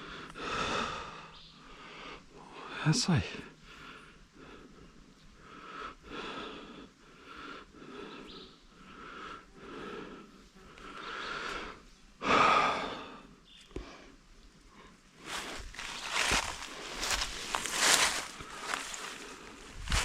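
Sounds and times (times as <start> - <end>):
person breathing heavily: 0.0 - 20.0.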